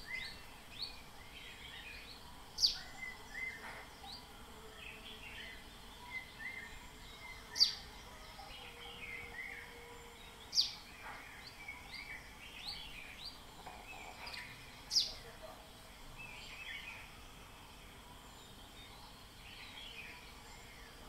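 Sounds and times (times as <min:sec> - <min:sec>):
faint outdoor ambience: 0:00.0 - 0:21.0
small birds chirping: 0:00.0 - 0:21.0.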